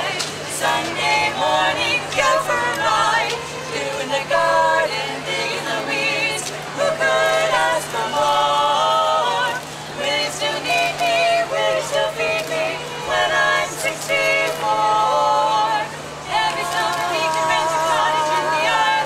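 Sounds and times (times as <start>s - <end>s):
women singing in harmony: 0.0s - 19.0s.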